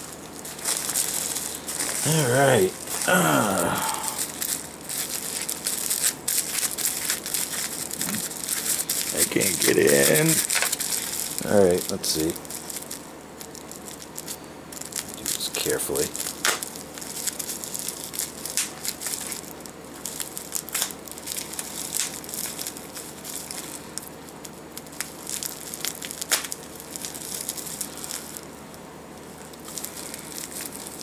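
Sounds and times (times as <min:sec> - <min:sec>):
plastic wrapping crinkling: 0:00.0 - 0:31.0.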